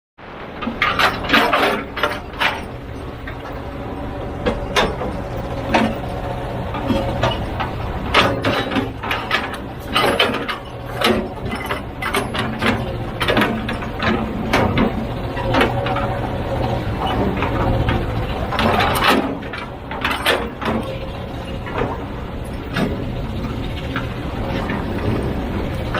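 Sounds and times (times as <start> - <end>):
large engine running: 0.2 - 25.9
metallic clanks and knocks: 0.4 - 25.9.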